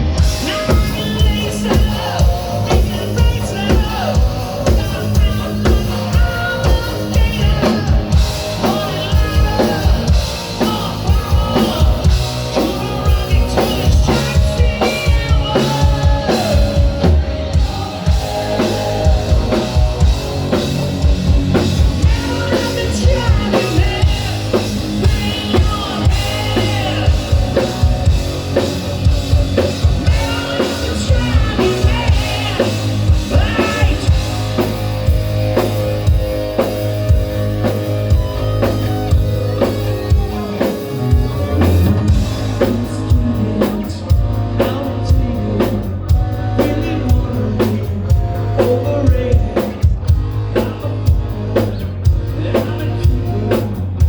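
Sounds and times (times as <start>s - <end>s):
rock music: 0.0s - 54.0s.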